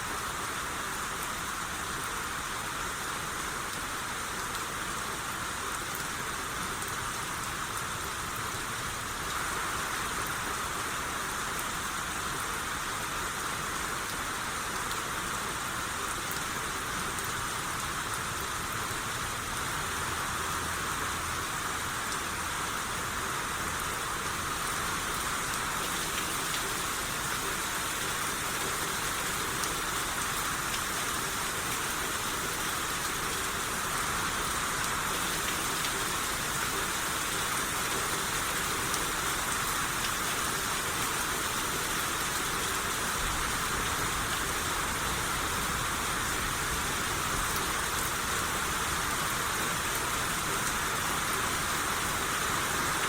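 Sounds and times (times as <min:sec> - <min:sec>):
rain pattering: 0:00.1 - 0:53.0.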